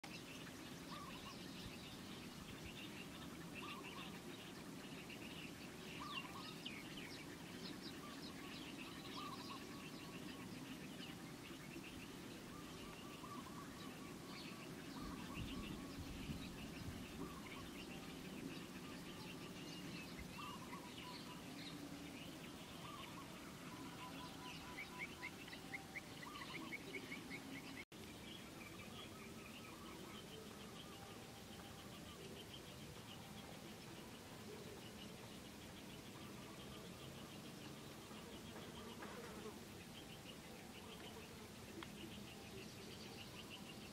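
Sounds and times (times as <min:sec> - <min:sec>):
birds chirping: 0:00.0 - 0:43.9
low outdoor background rush: 0:00.0 - 0:43.9.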